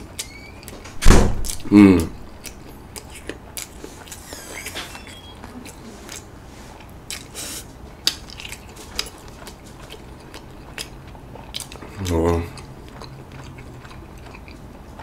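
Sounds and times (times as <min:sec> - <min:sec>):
close chewing with mouth smacks: 0:00.0 - 0:00.8, 0:02.3 - 0:15.0.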